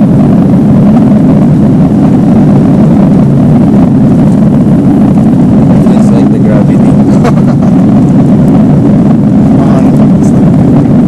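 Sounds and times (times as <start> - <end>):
jet engine rumble: 0.0 - 11.0
rushing air: 0.0 - 11.0.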